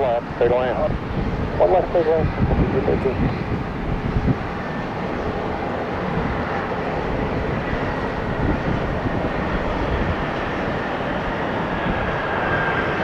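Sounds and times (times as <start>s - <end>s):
high-pitched engine whine: 0.0s - 13.0s
jet engines running: 0.0s - 13.0s.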